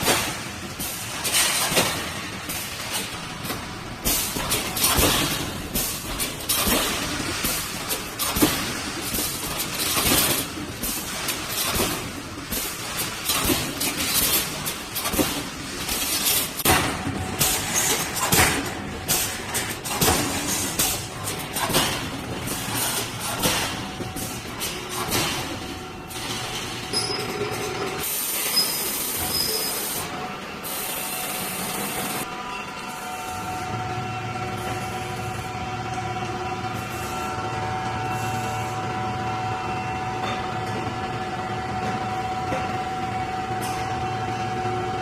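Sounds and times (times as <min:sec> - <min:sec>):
welding machine running: 0:00.0 - 0:45.0.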